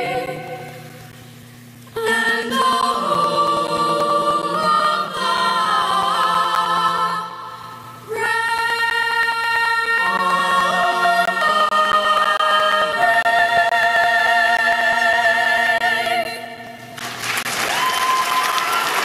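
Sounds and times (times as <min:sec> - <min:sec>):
choir singing a cappella: 0:00.0 - 0:01.0, 0:01.9 - 0:16.9.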